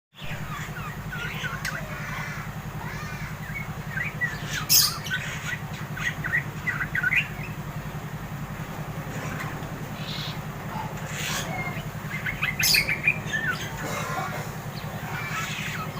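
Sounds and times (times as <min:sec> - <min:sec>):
bird chattering chirps: 0:00.2 - 0:07.7, 0:09.0 - 0:15.9
steady low hum: 0:00.2 - 0:15.9.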